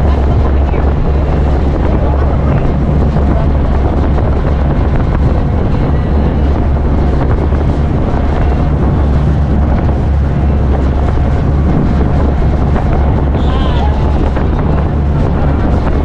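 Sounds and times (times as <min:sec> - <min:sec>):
boat engine drone: 0:00.0 - 0:16.0
wind buffeting microphone: 0:00.0 - 0:16.0.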